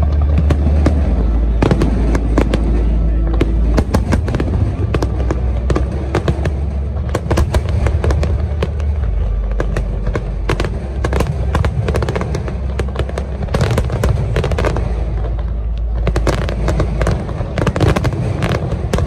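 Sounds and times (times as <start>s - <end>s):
fireworks cracking and popping: 0.0s - 19.0s
low rumble of bursting shells: 0.0s - 19.0s.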